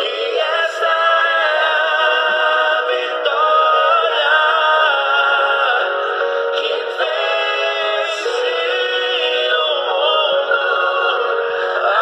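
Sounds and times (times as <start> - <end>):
voices singing long held notes: 0.0 - 12.0.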